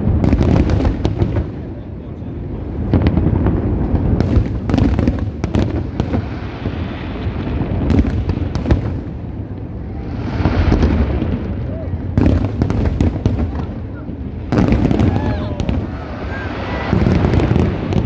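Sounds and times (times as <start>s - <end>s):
sharp firework bangs and cracks: 0.0s - 1.9s, 2.7s - 18.0s
fireworks booming: 0.0s - 18.0s.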